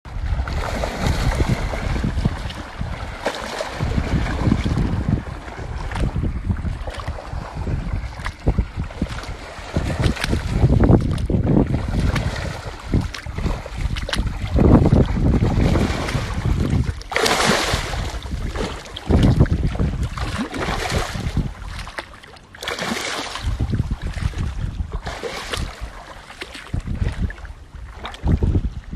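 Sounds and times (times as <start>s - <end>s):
wind buffeting microphone: 0.1s - 22.0s, 23.0s - 28.9s.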